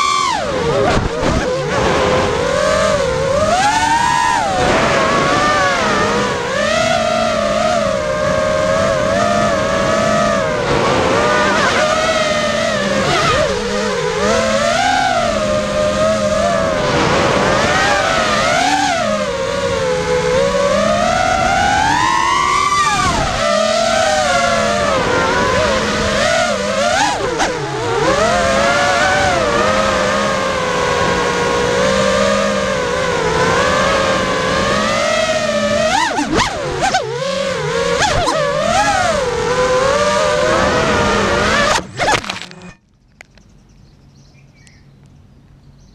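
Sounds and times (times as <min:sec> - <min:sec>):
drone motors whining: 0:00.0 - 0:44.8.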